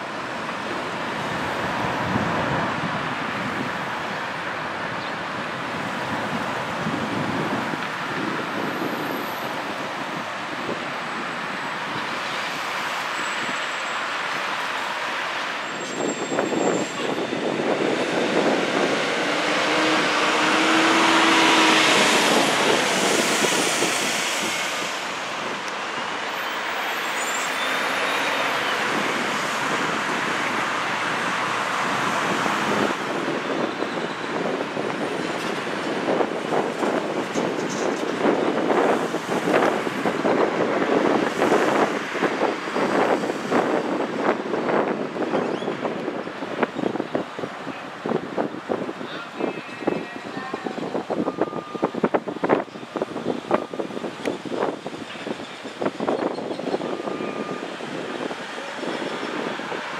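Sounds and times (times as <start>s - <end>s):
city street traffic: 0.0s - 59.9s.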